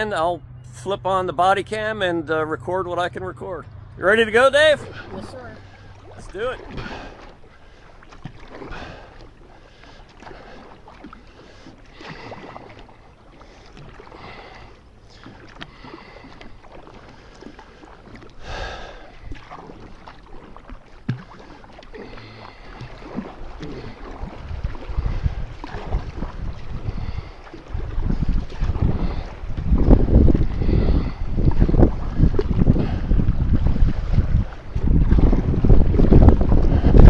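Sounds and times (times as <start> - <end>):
water running off blades: 4.0 - 36.8
paddle splashing in water: 4.4 - 37.0.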